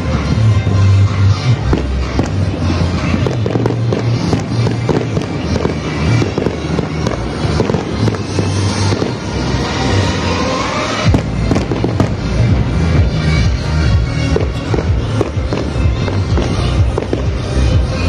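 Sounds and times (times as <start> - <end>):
fireworks bursting and crackling: 0.0 - 18.0
loud music with steady bass: 0.0 - 18.0.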